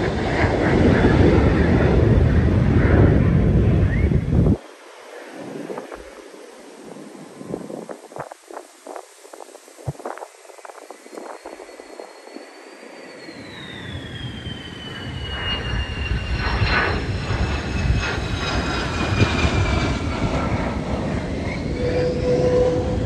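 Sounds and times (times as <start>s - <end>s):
deep jet rumble: 0.0s - 23.0s
jet engine whine: 0.0s - 23.0s.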